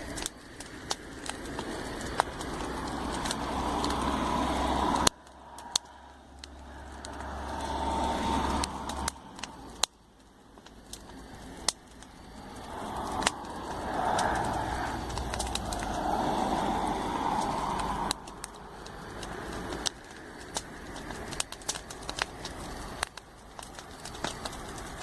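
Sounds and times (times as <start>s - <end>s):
campfire crackling and popping: 0.0s - 25.0s
road traffic passing: 0.0s - 25.0s.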